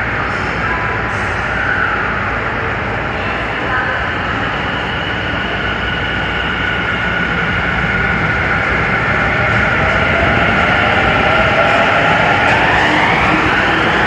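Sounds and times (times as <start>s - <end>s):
wheels rumbling on rail: 2.3s - 14.0s.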